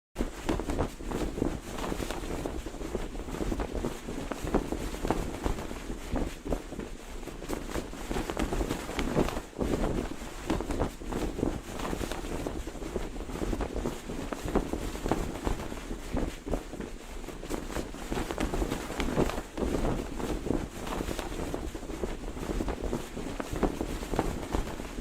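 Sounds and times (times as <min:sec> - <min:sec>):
flag flapping in wind: 0:00.2 - 0:25.0.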